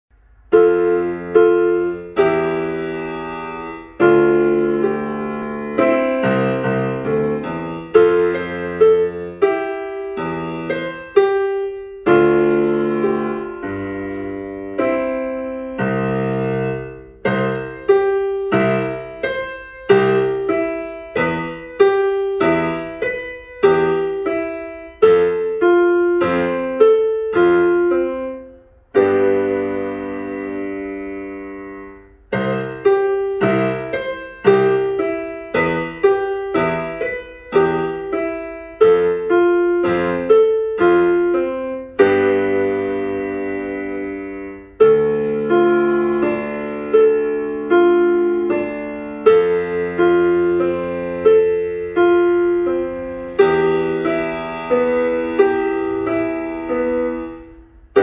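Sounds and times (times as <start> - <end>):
digital piano chords: 0.1 - 58.0.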